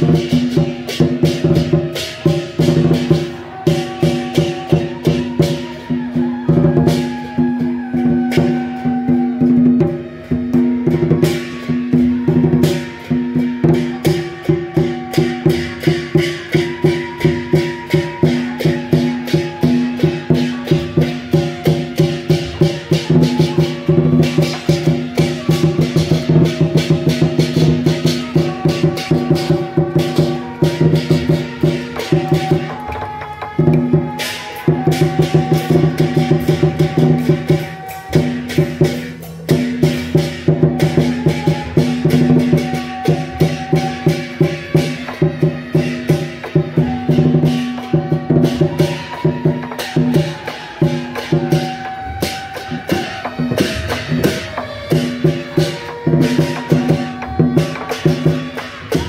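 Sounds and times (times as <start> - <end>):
cymbals: 0.0 - 59.0
drums beating: 0.0 - 59.0
gongs: 0.0 - 59.0.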